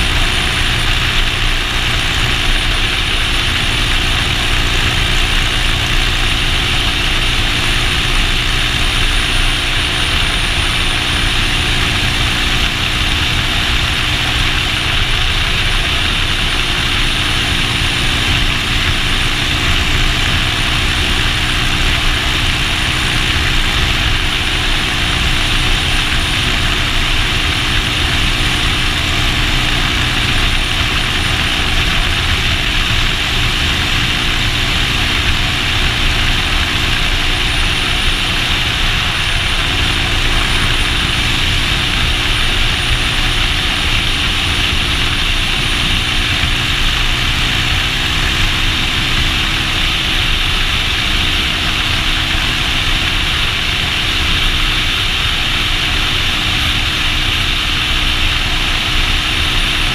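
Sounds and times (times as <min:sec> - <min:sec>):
heavy wind rush: 0:00.0 - 0:59.9
motorcycle engine cruising: 0:00.0 - 0:59.9.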